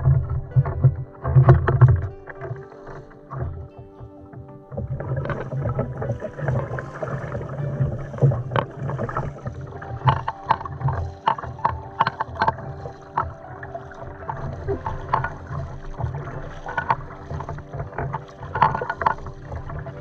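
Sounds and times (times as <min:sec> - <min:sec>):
paddle splashing in water: 0:00.0 - 0:20.0
water washing: 0:00.0 - 0:20.0.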